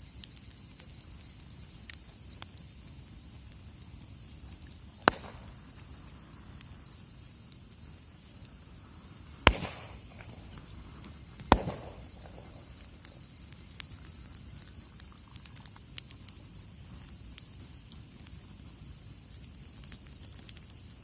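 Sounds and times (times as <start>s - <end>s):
campfire wood popping: 0.0s - 21.0s
faint fire crackles: 0.0s - 21.0s
steady high hiss: 0.0s - 21.0s.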